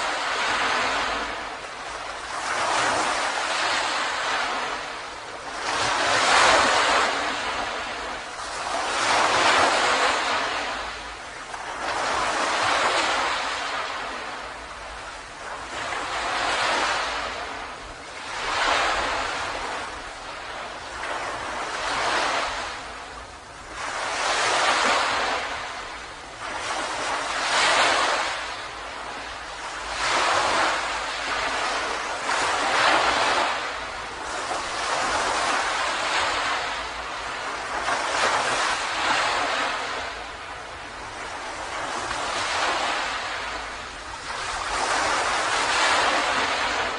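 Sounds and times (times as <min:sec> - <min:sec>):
ocean surf washing onto beach: 0:00.0 - 0:46.9.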